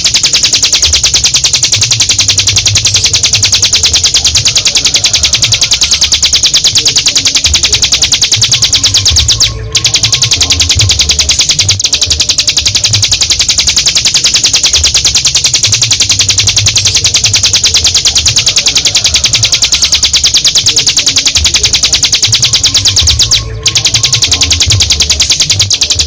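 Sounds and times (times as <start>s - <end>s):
bird singing rattling trill: 0.0s - 26.0s.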